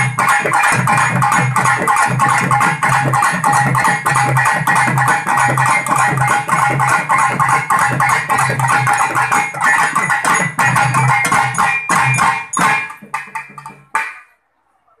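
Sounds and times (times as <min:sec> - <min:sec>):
drums in fast rhythm: 0:00.0 - 0:14.4.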